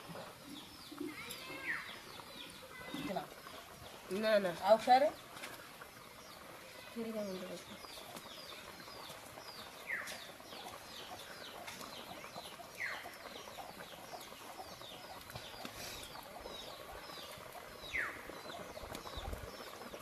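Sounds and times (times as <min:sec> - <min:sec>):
fish frying in hot oil: 0:00.0 - 0:20.0
birds chirping: 0:00.4 - 0:20.0.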